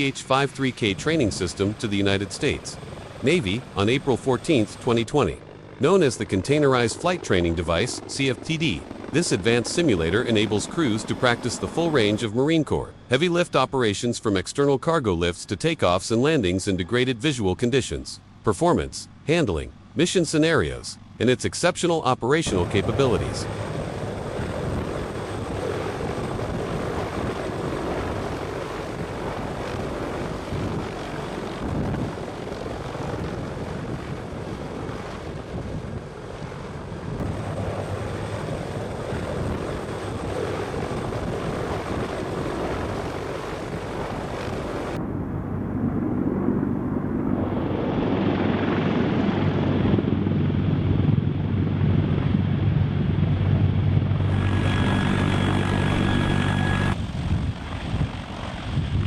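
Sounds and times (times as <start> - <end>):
helicopter rotor and turbine noise: 0.0 - 59.0.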